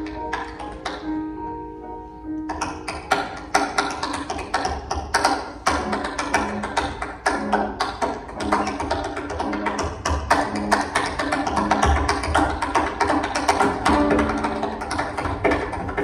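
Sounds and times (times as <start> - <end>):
grand piano: 0.0 - 16.0
tap shoes on wooden board: 3.1 - 16.0.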